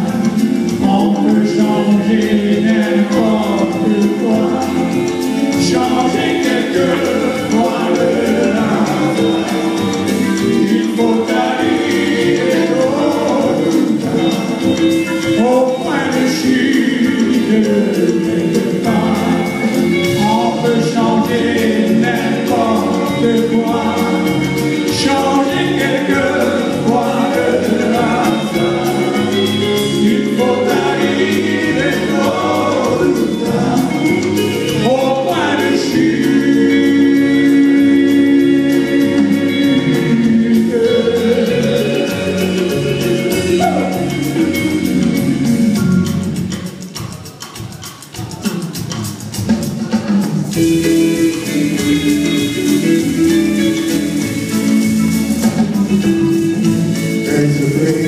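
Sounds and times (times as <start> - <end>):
man singing into a microphone: 0.0 - 45.9, 55.9 - 58.0
live rock band playing: 0.0 - 58.0.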